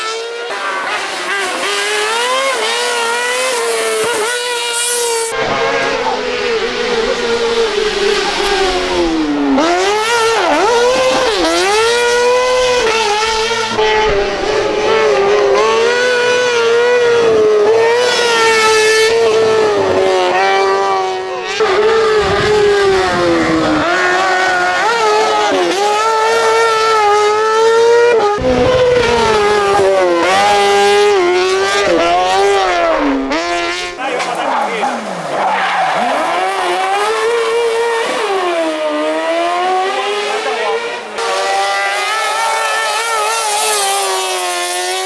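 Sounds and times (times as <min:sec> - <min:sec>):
motorcycle engine revving high: 0:00.0 - 0:35.3, 0:35.9 - 0:45.0.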